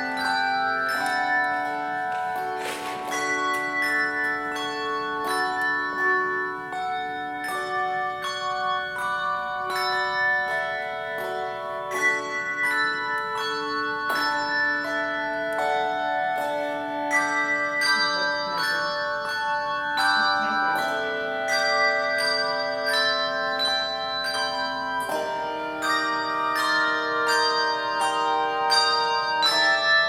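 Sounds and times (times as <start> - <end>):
handbell choir playing: 0.0 - 30.0.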